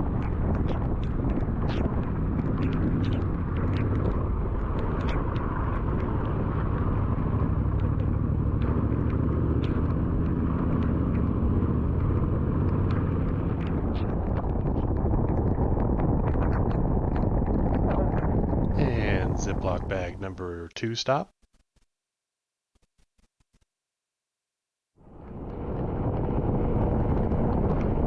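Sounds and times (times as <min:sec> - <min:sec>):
motorcycle engine running: 0:00.0 - 0:19.8, 0:25.0 - 0:28.0
wind and road noise: 0:00.0 - 0:20.4, 0:25.0 - 0:28.0.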